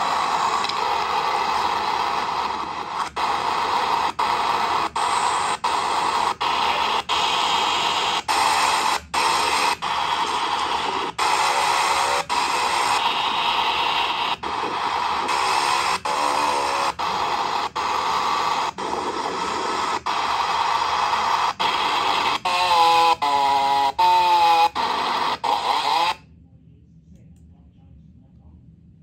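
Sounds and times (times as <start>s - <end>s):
static hiss: 0.0s - 26.2s.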